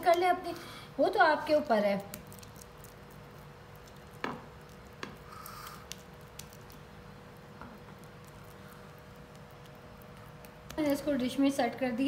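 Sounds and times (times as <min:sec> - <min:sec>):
faint squishing: 0:00.0 - 0:12.0.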